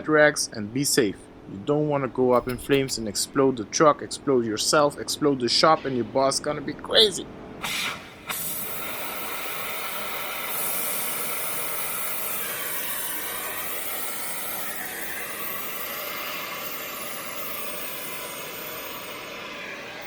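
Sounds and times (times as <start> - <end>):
cutting torch hissing: 2.4 - 3.6, 4.7 - 20.0.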